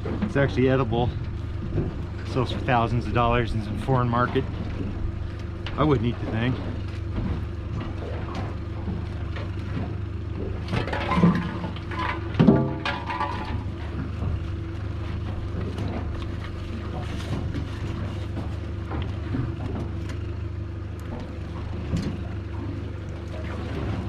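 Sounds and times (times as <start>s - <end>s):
knocks and clatter: 0.0s - 24.0s
outboard motor idling: 0.0s - 24.0s.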